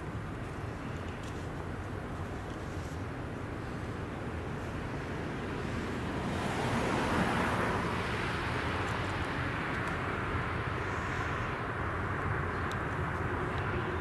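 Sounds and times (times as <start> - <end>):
road traffic tyre noise: 0.0 - 14.0.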